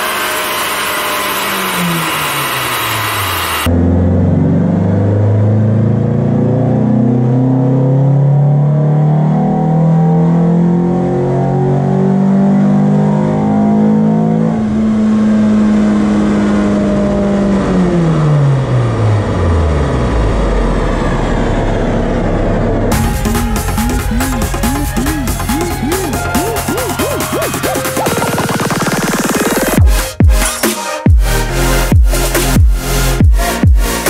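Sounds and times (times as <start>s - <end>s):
car engine revving under load: 0.0s - 30.3s.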